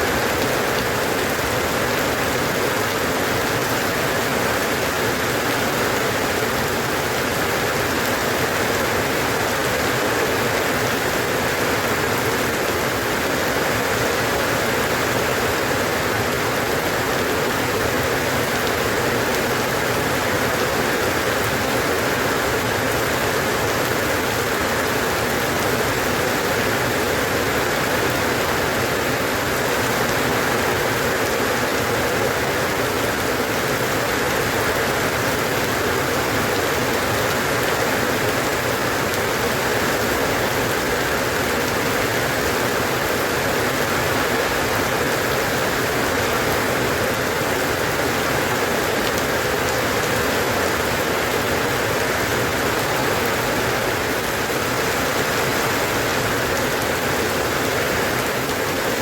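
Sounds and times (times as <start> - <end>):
steady rainfall hiss: 0.0 - 59.0.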